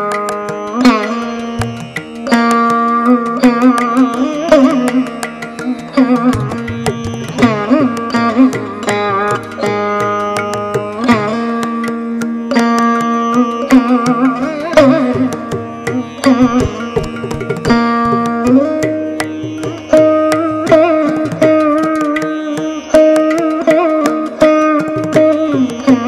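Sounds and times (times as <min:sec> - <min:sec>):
veena plucked melody: 0:00.0 - 0:26.0.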